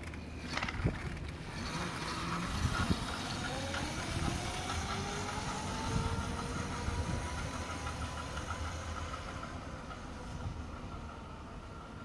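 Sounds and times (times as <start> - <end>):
electric motor whine: 0.4 - 11.7.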